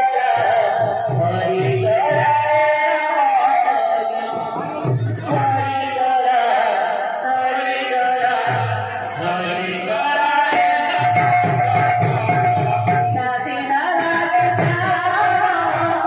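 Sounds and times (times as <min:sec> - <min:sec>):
person singing devotional melody: 0:00.0 - 0:16.0.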